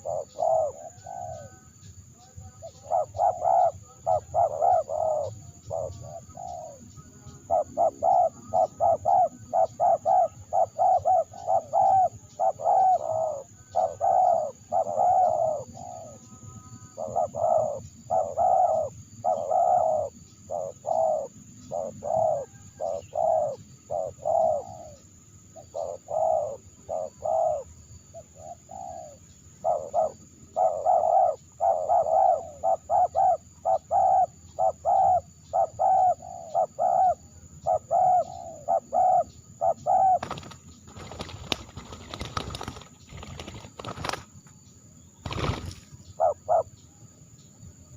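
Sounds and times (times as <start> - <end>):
dove cooing: 0.0 - 44.2, 45.2 - 46.8.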